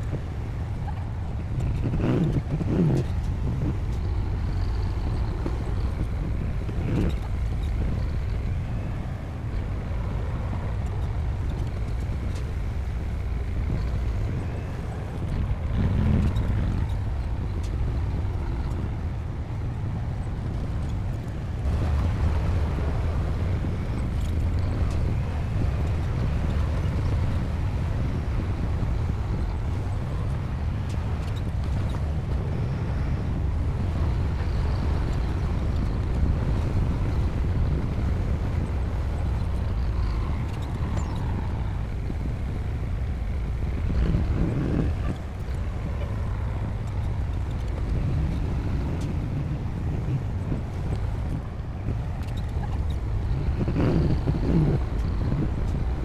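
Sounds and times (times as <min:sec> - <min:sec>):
bulldozer diesel engine rumble: 0:00.0 - 0:56.0.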